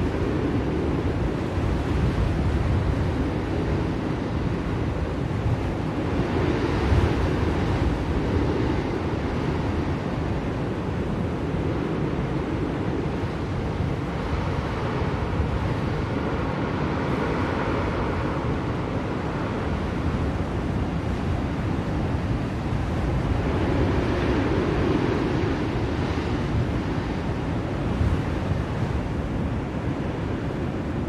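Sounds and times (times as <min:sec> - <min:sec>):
blizzard wind blowing: 0:00.0 - 0:31.0.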